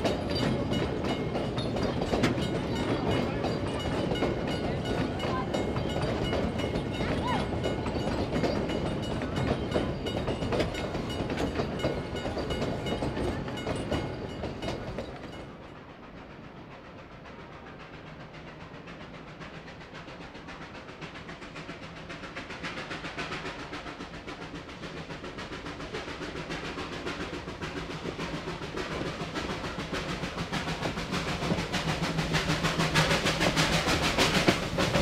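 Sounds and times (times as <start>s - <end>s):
distant steam locomotive beat: 0.0s - 35.0s
train wheels clicking over rail joints: 0.0s - 35.0s.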